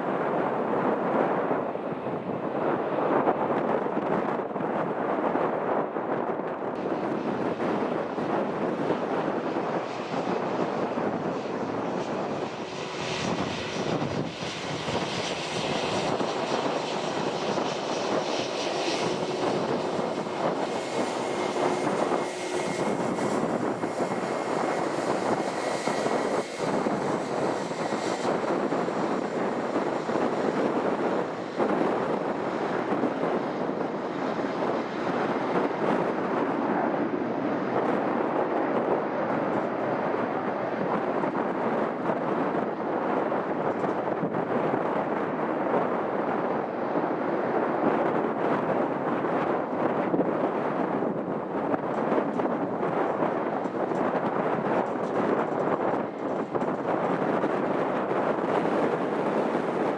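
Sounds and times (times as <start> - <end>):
airliner engines running: 0.0 - 59.9.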